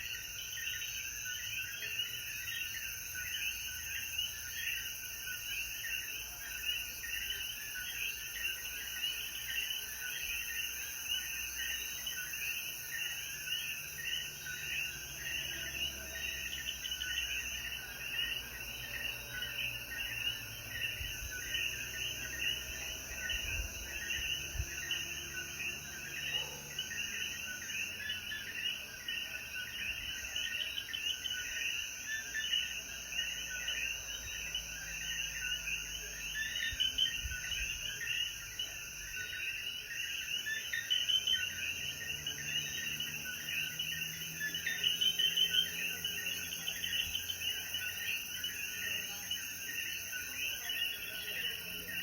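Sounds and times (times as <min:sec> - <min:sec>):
frogs chirping in chorus: 0:00.0 - 0:52.0.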